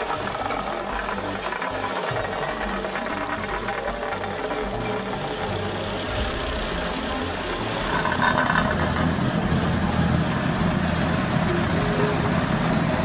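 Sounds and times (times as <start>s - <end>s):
plate compactor engine running: 0.0s - 13.0s.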